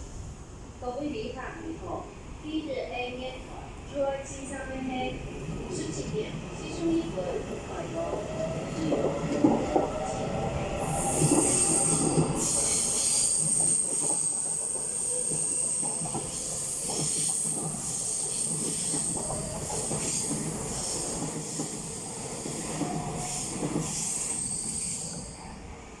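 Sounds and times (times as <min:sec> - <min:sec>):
rail and wheel noise: 0:00.0 - 0:26.0.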